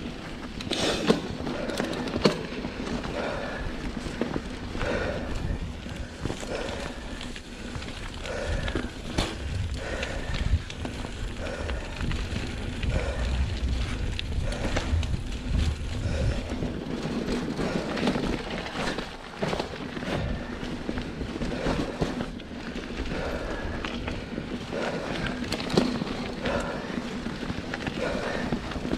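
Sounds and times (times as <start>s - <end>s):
bike knocking and rattling: 0.0s - 28.9s
bike tyres rolling over dirt: 0.0s - 28.9s.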